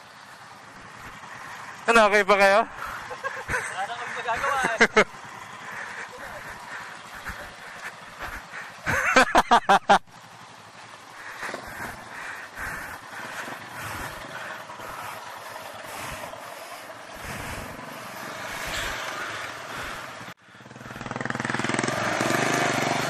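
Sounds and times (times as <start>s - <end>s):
motorcycle engine running: 0.0s - 23.0s
road noise: 0.0s - 23.0s.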